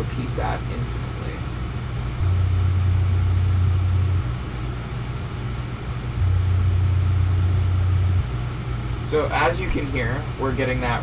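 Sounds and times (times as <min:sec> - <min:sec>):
synthesized low sine tone: 0:00.9 - 0:10.3.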